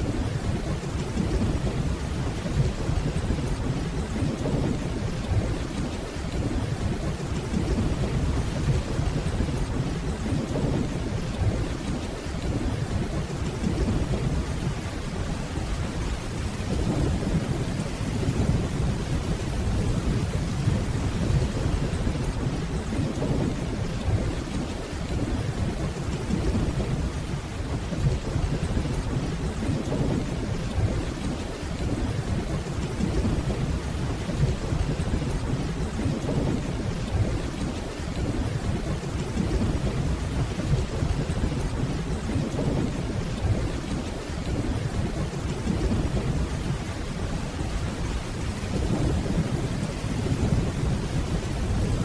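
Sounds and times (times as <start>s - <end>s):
distant rolling thunder: 0.0s - 52.0s
steady rainfall: 0.0s - 52.0s.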